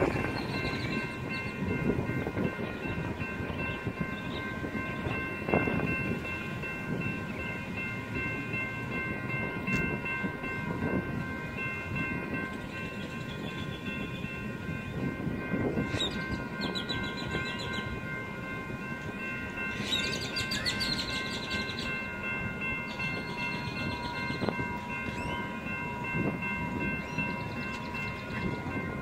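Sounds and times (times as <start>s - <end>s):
crossing warning bell: 0.0s - 29.0s
freight train rumbling: 0.0s - 29.0s.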